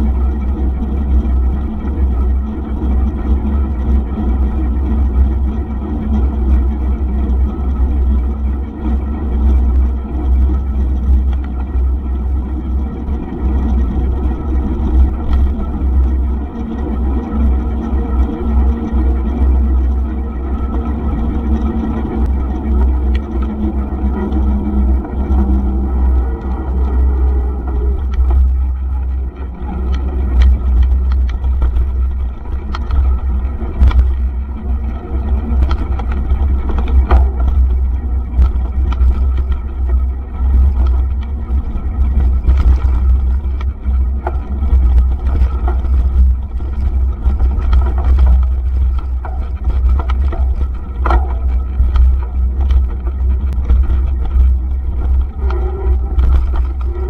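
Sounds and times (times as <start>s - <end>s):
bike rattles and knocks: 0.0s - 57.0s
wind buffeting microphone: 0.0s - 57.0s.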